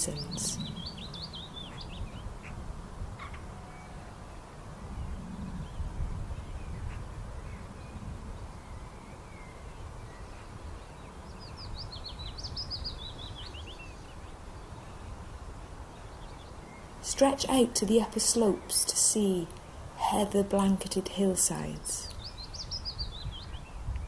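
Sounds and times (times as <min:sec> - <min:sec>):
birdsong: 0:00.0 - 0:24.0.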